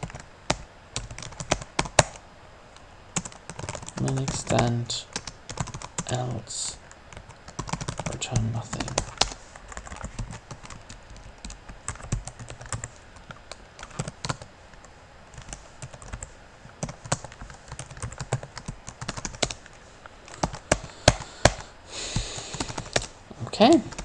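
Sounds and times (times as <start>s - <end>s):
computer keyboard typing: 0.0s - 2.2s, 3.2s - 6.2s, 7.1s - 14.5s, 15.3s - 21.6s, 22.4s - 23.1s.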